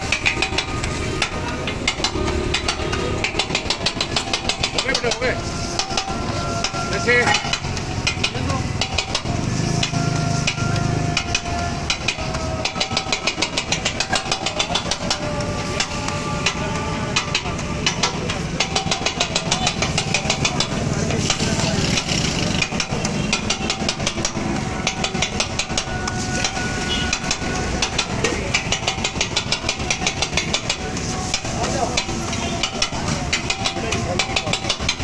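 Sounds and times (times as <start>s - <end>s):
metal scraper chopping on griddle: 0.0s - 35.0s.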